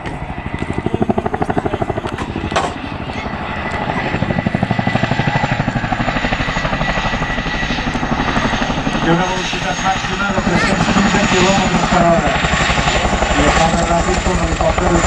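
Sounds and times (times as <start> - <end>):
helicopter rotors beating: 0.0 - 15.0
turbine whine: 0.0 - 15.0.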